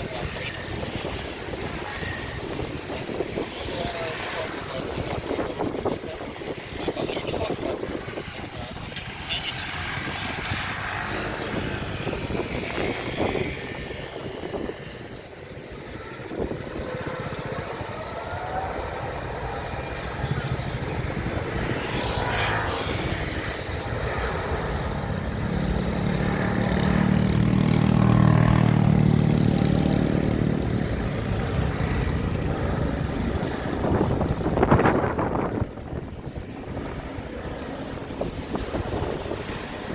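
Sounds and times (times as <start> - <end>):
jet airliner engines passing: 0.0 - 39.9.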